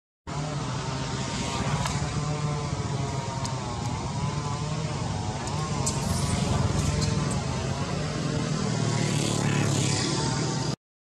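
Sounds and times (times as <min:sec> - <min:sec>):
engine droning: 0:00.3 - 0:10.8
wavering whine: 0:00.6 - 0:10.8.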